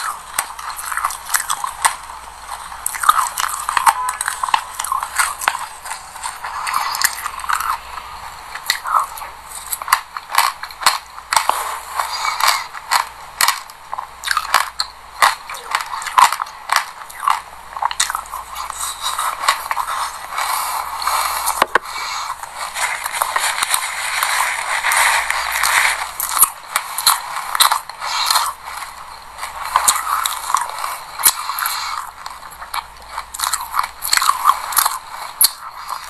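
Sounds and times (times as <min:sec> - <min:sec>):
chewing crunchy seeds: 0:00.0 - 0:36.0.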